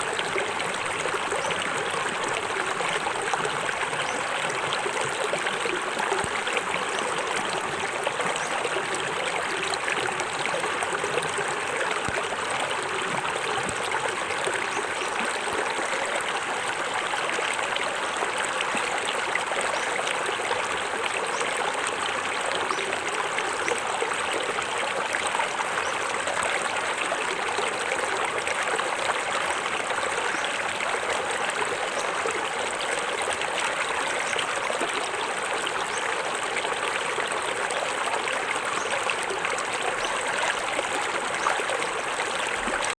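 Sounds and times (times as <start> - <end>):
small waterfall splashing: 0.0 - 42.9.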